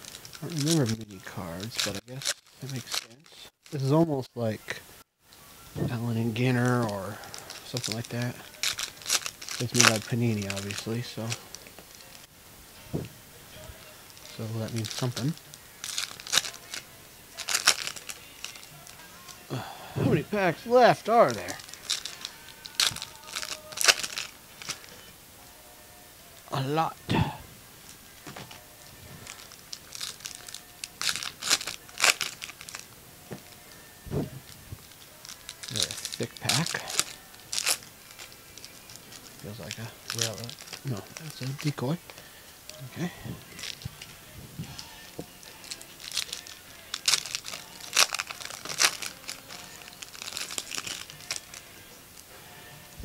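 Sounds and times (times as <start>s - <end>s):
foil wrappers crinkling and tearing: 0.0s - 4.8s, 5.8s - 12.3s, 13.6s - 25.1s, 26.6s - 51.9s.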